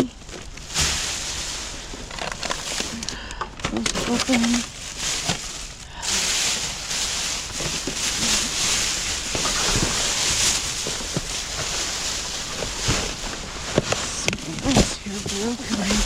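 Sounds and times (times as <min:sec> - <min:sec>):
rustles: 0:00.0 - 0:16.0.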